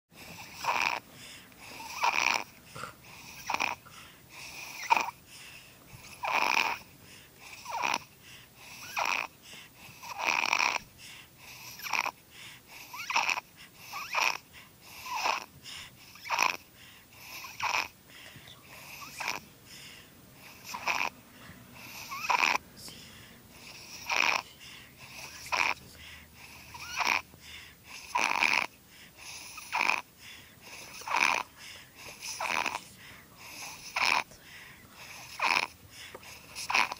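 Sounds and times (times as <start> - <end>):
baby snoring: 0.2 - 36.9.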